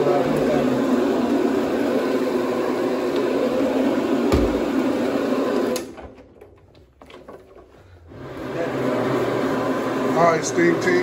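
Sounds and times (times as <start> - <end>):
carpet cleaning machine running: 0.0 - 6.5, 8.0 - 11.0.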